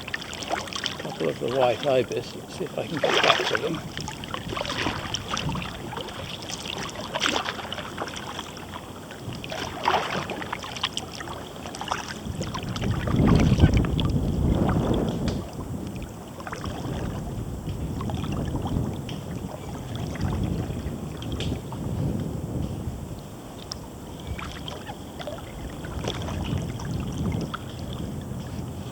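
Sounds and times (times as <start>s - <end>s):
paddle splashing water: 0.0s - 22.6s, 23.4s - 28.9s
wind rumbling on microphone: 0.0s - 28.9s.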